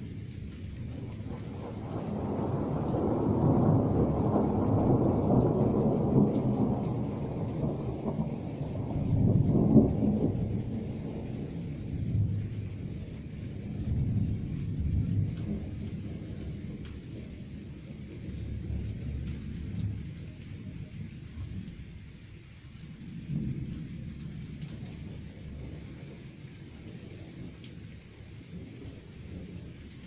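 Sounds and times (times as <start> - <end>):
thunder rumbling: 0.0 - 22.2, 22.8 - 30.0.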